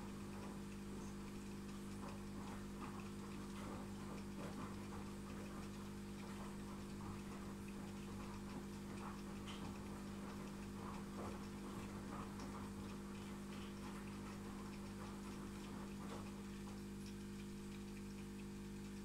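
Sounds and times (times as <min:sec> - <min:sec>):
aquarium equipment humming: 0:00.0 - 0:19.0
faint irregular ticks: 0:00.0 - 0:19.0.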